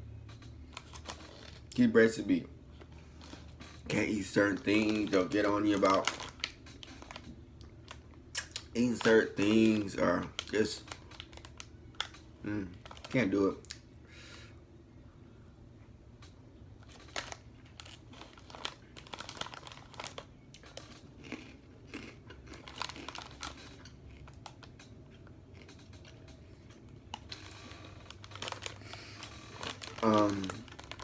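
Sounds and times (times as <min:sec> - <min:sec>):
plastic snack bag crinkling: 0:00.6 - 0:02.3, 0:03.0 - 0:13.8, 0:16.8 - 0:31.0
crunchy snacks being eaten: 0:00.7 - 0:01.9, 0:03.2 - 0:07.3, 0:07.9 - 0:13.8, 0:16.8 - 0:31.0.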